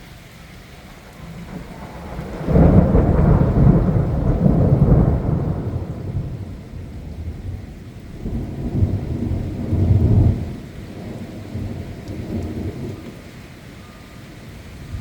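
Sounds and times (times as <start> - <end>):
rain falling: 0.0 - 15.0
thunder rumbling: 0.8 - 15.0.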